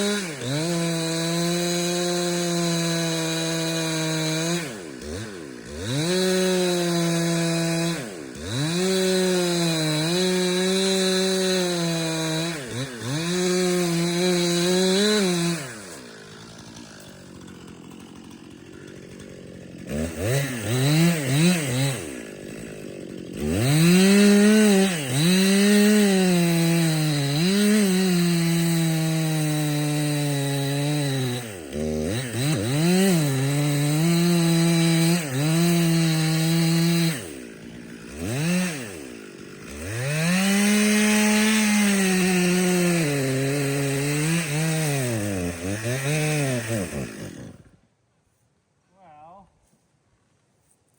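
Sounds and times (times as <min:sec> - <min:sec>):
chainsaw cutting wood: 0:00.0 - 0:48.0.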